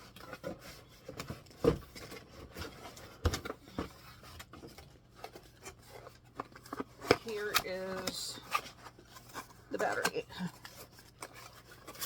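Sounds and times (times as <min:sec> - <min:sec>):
packaging clicks and rustles: 0:00.0 - 0:12.0.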